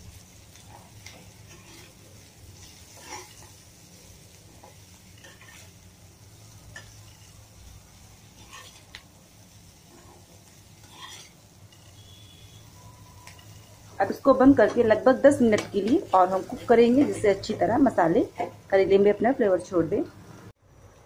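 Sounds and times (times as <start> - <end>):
metal spatula scraping a pan: 0.5 - 9.0, 9.7 - 18.6.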